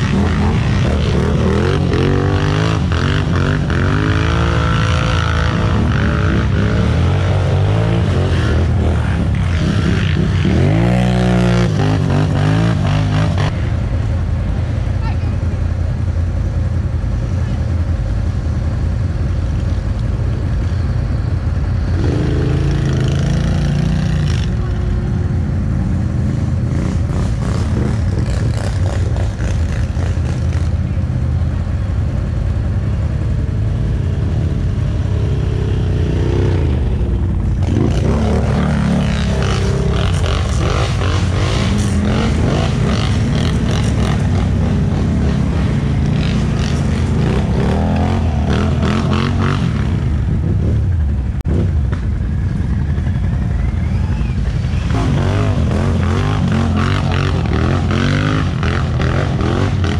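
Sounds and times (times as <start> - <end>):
atv engine revving: 0.0 - 14.1, 21.6 - 31.5, 32.7 - 59.9.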